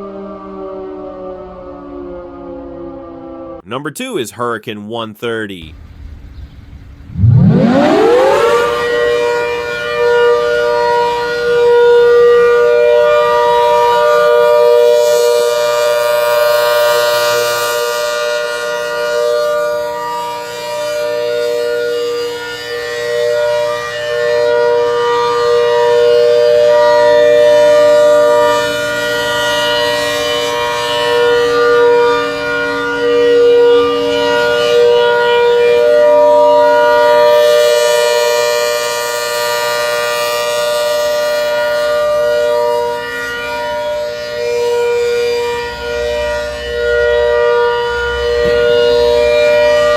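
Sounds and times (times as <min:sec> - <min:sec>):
warning siren wailing: 0:00.0 - 0:03.6, 0:06.9 - 0:49.9.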